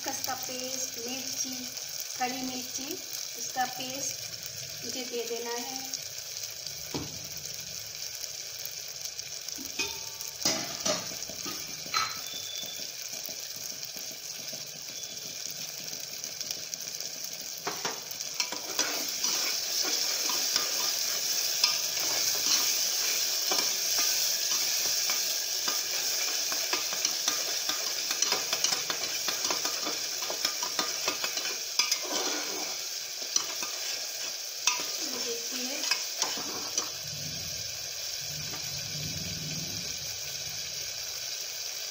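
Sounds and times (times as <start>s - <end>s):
onions sizzling in oil: 0.0s - 41.9s.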